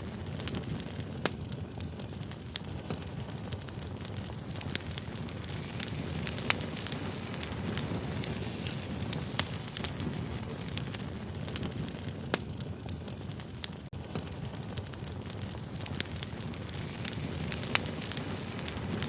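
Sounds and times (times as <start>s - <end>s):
firewood crackling and popping: 0.0s - 19.0s
low rush of flame: 0.0s - 19.0s.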